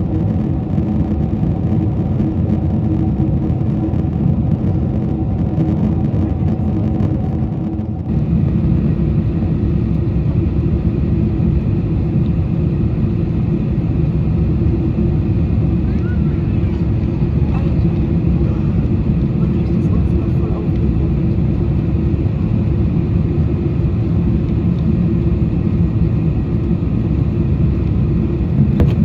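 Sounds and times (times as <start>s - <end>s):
engine and airflow drone: 0.0s - 29.0s
high steady whine: 0.0s - 29.0s.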